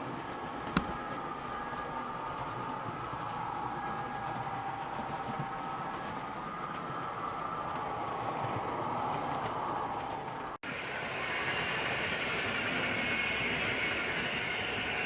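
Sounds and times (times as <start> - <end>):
model train wheels on track: 0.0 - 15.0.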